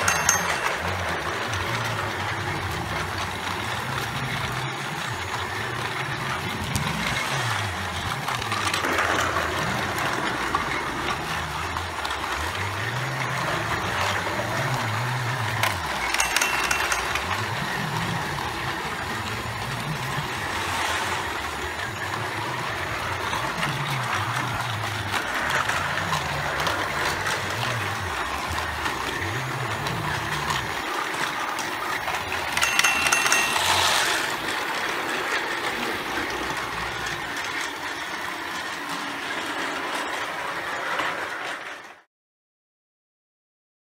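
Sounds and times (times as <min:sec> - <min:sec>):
toy trains whirring on plastic track: 0:00.0 - 0:42.1.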